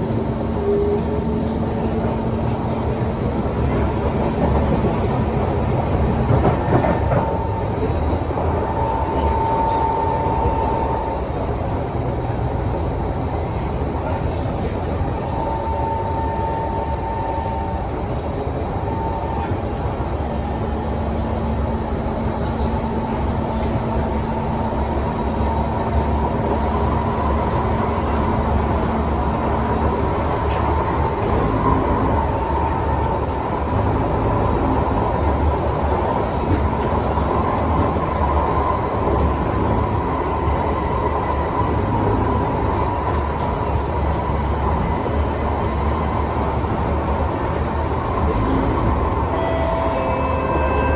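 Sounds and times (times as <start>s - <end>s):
wheels rumbling on rail: 0.0s - 50.9s.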